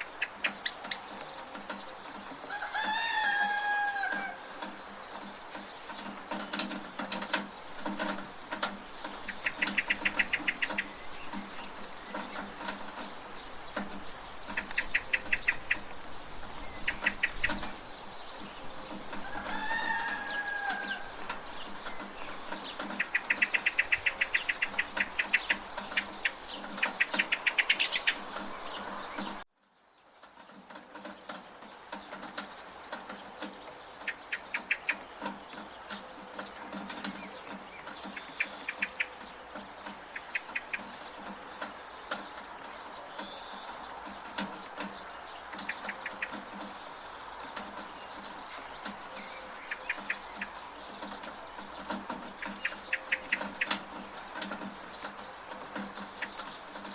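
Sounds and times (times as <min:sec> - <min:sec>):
chickens calling: 0:00.0 - 0:29.4, 0:30.7 - 0:56.9
birds calling: 0:00.0 - 0:56.9
steady rain: 0:00.0 - 0:56.9
water dripping from gutter: 0:00.0 - 0:56.9.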